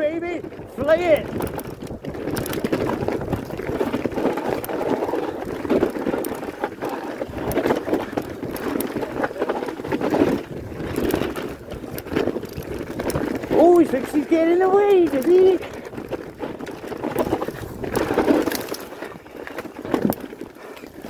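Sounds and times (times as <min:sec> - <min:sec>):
bike rattling over roots: 0:00.0 - 0:21.0
tyres rumbling on dirt: 0:00.0 - 0:21.0
wind on microphone: 0:00.0 - 0:21.0.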